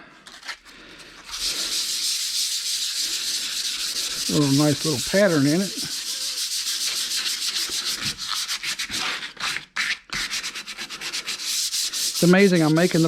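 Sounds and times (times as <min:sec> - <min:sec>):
metal plate being sanded: 0:01.3 - 0:09.5, 0:10.2 - 0:13.0.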